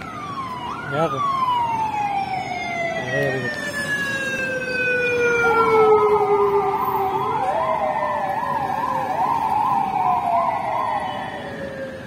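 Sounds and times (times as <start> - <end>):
falling siren tones: 0.0 - 12.0
siren warbling rapidly: 0.6 - 11.6.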